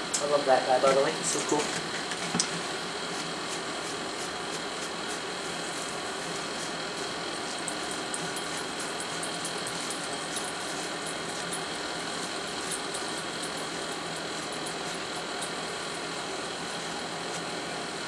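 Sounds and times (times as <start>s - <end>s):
forge blower fan running: 0.0s - 18.0s.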